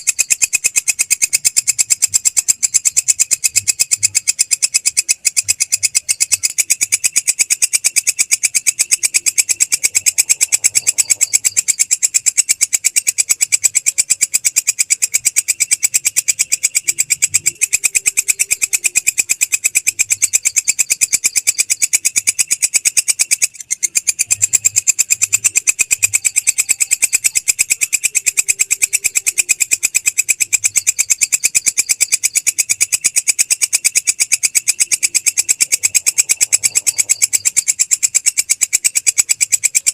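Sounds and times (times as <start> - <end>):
grasshopper stridulating buzz: 0.0 - 39.9.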